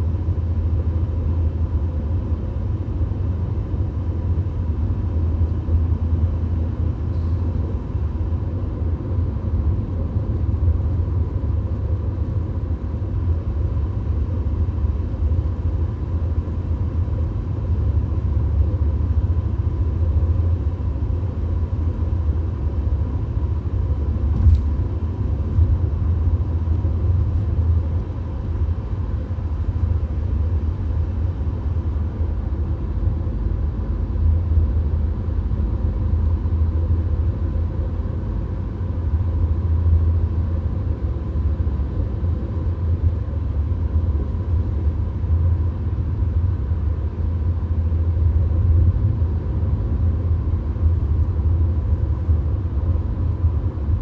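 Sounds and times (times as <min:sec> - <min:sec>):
car cabin road and engine rumble: 0:00.0 - 0:54.0.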